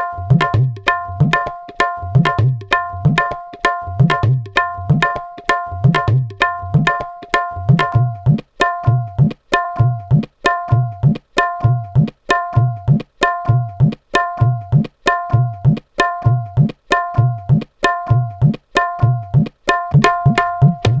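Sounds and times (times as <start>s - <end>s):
tabla playing rhythm: 0.0s - 21.0s.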